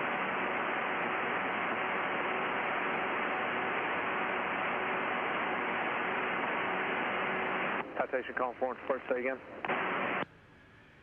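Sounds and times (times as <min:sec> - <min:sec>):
radio static hiss: 0:00.0 - 0:10.3
faint hum: 0:00.0 - 0:11.0.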